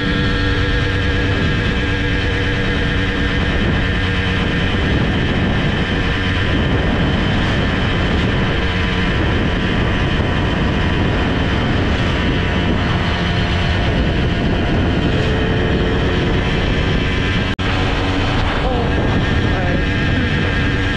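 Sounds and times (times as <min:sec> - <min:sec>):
moped two-stroke engine running: 0:00.0 - 0:20.9.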